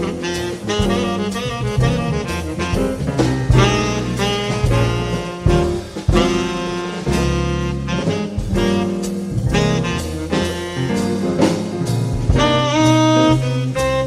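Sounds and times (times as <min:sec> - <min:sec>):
saxophone melody: 0:00.0 - 0:11.5, 0:12.3 - 0:14.0
drum kit: 0:00.0 - 0:14.0
walking double bass: 0:00.0 - 0:14.0.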